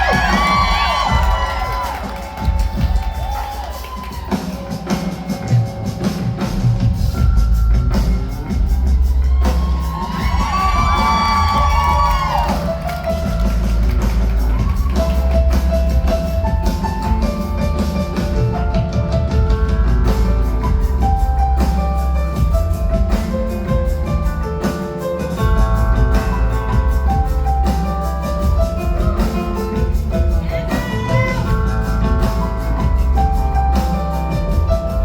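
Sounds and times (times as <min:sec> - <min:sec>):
crowd noise: 0:00.0 - 0:35.0
live band playing: 0:00.0 - 0:35.0.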